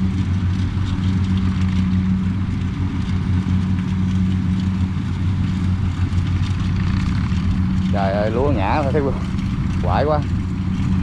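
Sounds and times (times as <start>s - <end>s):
combine harvester diesel engine running: 0.0s - 11.0s.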